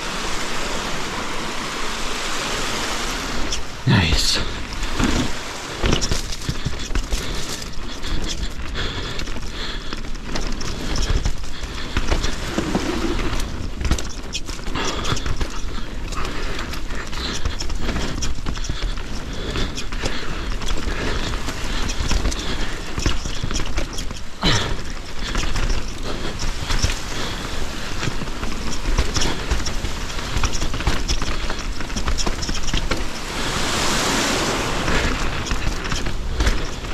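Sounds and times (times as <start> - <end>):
mountain bike rattling over rocks: 4.4 - 36.9.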